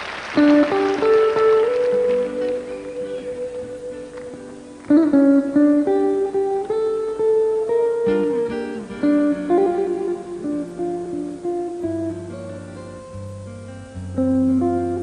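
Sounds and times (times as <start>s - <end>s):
electric guitar jazz melody: 0.0s - 15.0s.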